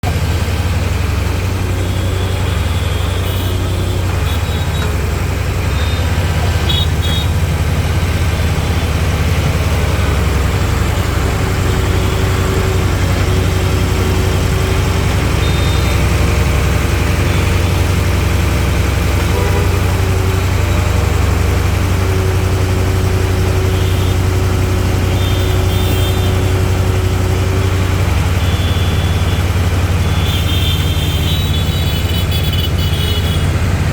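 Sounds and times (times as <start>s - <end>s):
skid steer engine humming: 0.0s - 33.9s.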